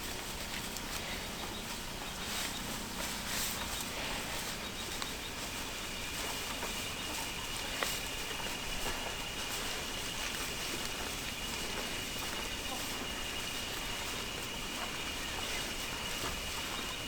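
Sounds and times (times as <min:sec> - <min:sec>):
rustling hiss: 0:00.0 - 0:17.0.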